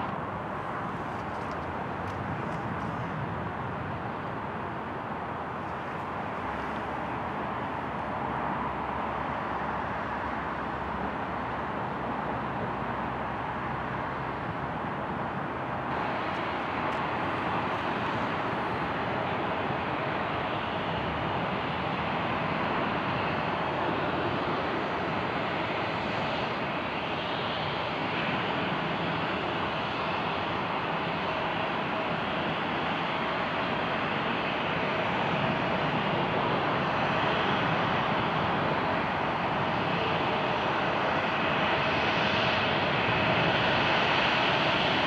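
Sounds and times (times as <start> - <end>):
jet engines taxiing: 0.0 - 45.0.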